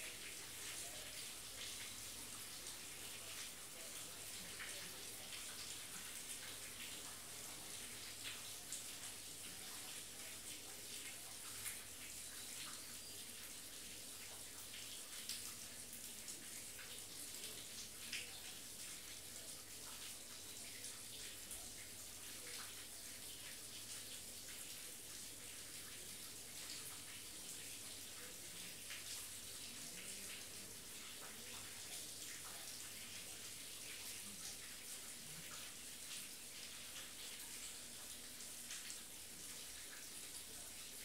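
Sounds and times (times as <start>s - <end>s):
faint steady rain: 0.0s - 41.0s.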